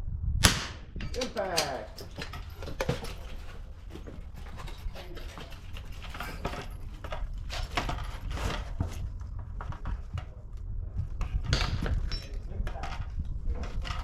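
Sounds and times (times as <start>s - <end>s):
wind buffeting microphone: 0.0s - 14.0s
knocks and rustles: 0.7s - 14.0s.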